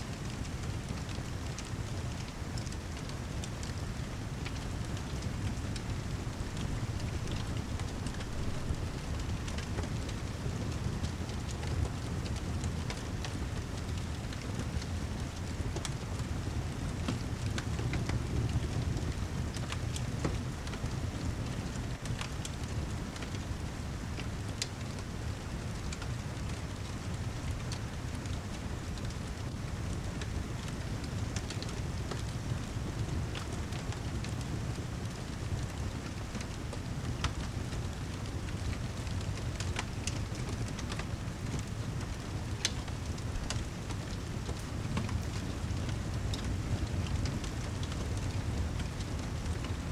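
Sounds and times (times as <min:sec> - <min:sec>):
heavy rain: 0:00.1 - 0:49.9
wood fire crackling: 0:00.1 - 0:49.9.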